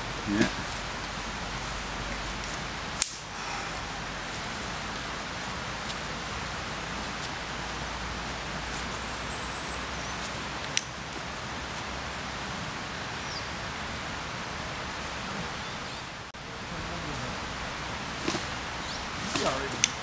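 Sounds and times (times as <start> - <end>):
steady outdoor noise: 0.0 - 20.0.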